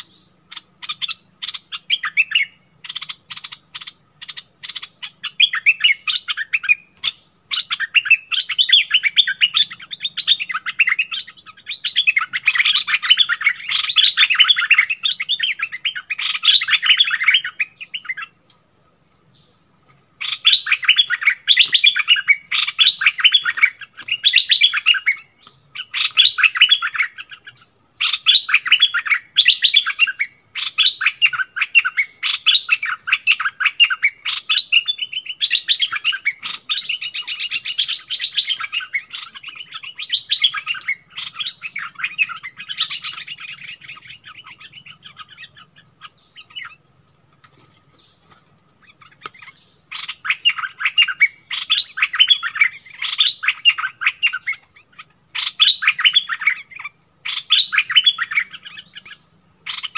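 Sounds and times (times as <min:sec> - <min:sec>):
birds singing chattering notes: 0:00.0 - 0:59.9.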